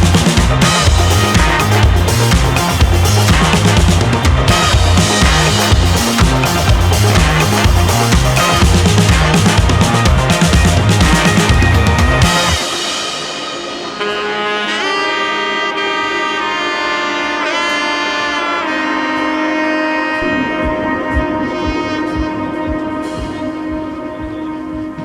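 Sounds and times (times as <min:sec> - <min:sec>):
sustained chords: 0:00.0 - 0:25.0
wind instrument bending notes: 0:00.0 - 0:25.0.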